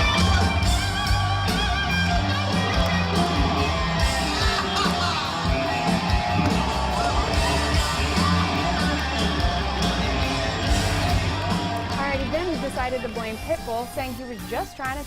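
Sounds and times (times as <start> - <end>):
live country band with singing: 0.0 - 12.8.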